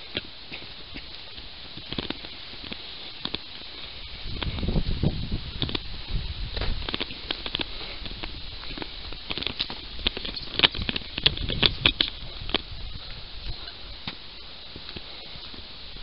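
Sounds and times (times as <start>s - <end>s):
footsteps crackling dry grass: 0.0s - 16.0s.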